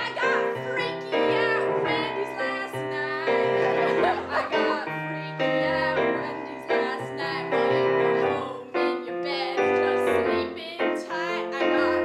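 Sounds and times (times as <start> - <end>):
keyboard piano accompaniment: 0.0 - 12.0
woman singing: 0.0 - 12.0.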